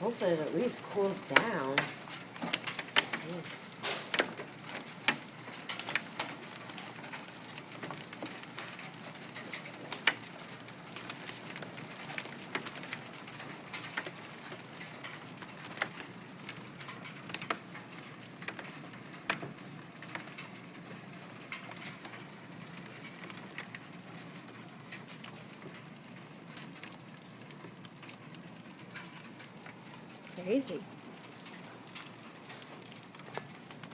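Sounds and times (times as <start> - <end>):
hailstones striking hard surfaces: 0.0 - 33.9.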